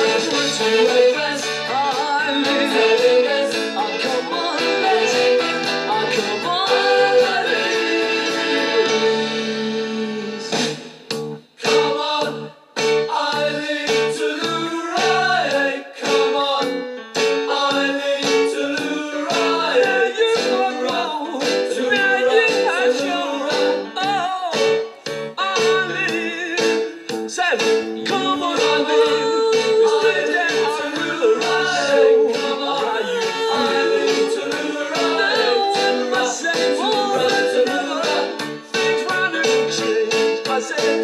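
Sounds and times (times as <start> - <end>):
person singing: 0.0 - 10.6, 11.6 - 41.0
guitar: 0.0 - 41.0.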